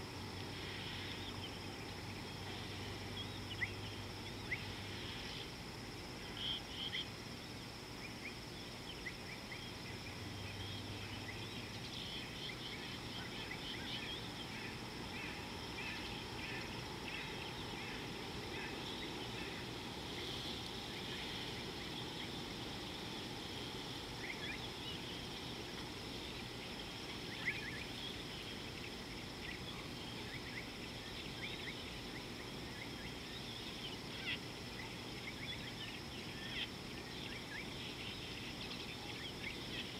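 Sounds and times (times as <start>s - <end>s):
high insect drone: 0.0s - 39.9s
low steady hum: 0.0s - 39.9s.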